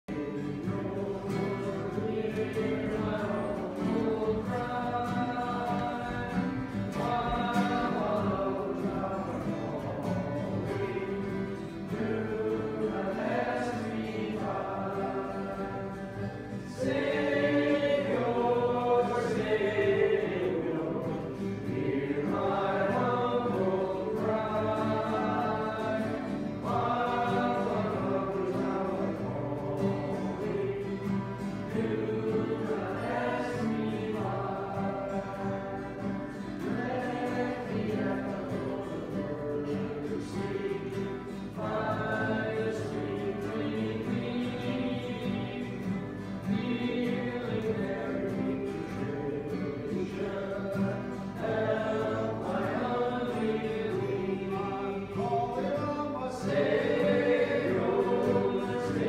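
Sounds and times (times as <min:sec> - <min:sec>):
voices singing gospel song: 0:00.0 - 0:59.0
strummed acoustic guitar: 0:00.1 - 0:59.0.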